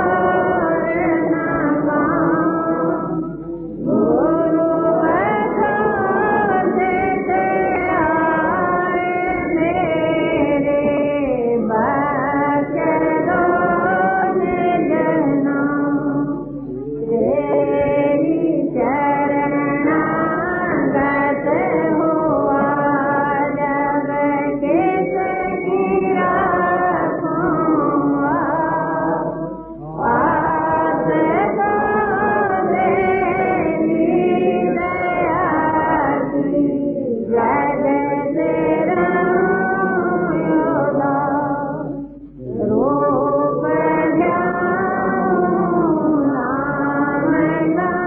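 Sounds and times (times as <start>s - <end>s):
devotional hymn singing: 0.0s - 48.0s.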